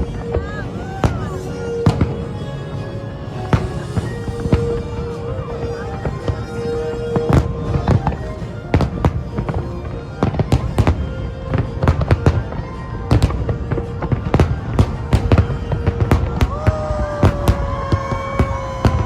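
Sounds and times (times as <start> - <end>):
fireworks bursting: 0.0 - 19.0
music playing: 0.0 - 19.0.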